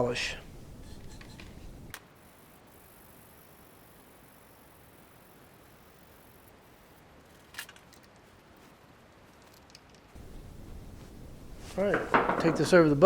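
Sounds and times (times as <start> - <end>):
faint high hiss: 0.0 - 9.2, 10.2 - 13.0.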